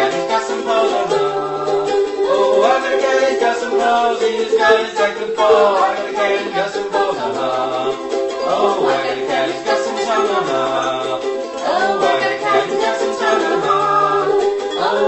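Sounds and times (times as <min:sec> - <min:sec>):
voices singing a cappella in harmony: 0:00.0 - 0:15.0.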